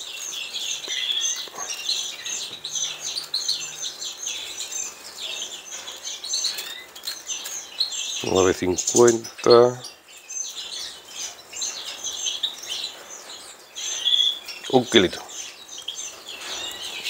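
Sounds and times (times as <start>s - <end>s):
canaries chirping: 0.0s - 17.0s.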